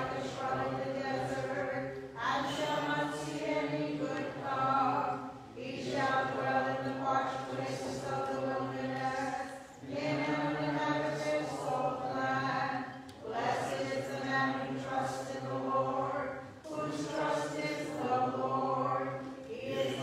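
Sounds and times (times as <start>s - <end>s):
voices chanting long held notes: 0.0s - 20.0s.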